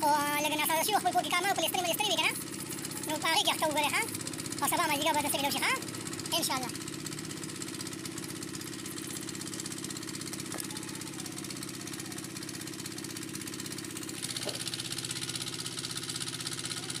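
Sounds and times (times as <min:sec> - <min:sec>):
engine running with fast beat: 0:00.0 - 0:17.0.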